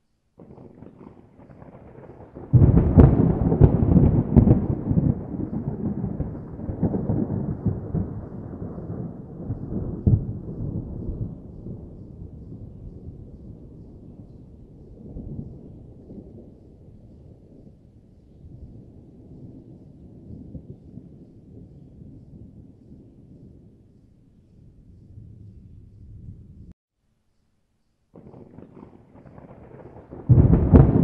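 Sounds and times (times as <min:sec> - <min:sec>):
thunder rumbling and cracking: 0:00.4 - 0:24.0, 0:28.2 - 0:31.0.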